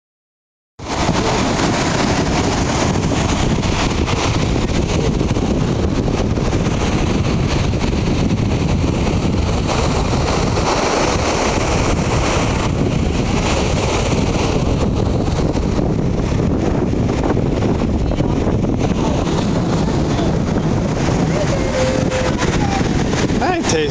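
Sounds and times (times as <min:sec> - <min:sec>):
ocean surf: 0:00.8 - 0:23.9
wind buffeting microphone: 0:00.8 - 0:23.9.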